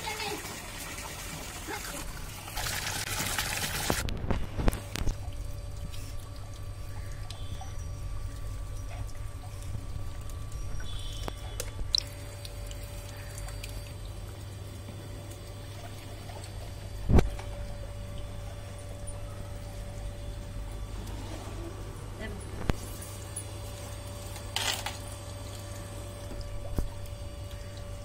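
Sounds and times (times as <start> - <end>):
steady low hum: 3.9 - 28.0.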